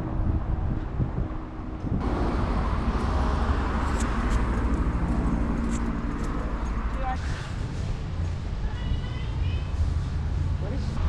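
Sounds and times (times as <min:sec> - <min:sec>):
vehicle engines and road noise: 0:00.0 - 0:11.0.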